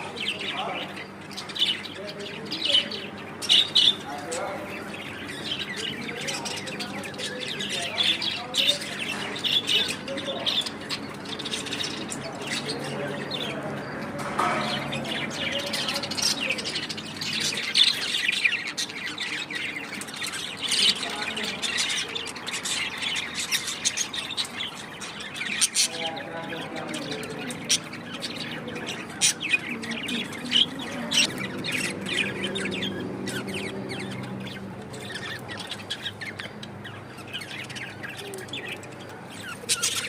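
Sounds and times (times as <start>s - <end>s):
budgerigars chirping and squawking: 0.0s - 40.0s.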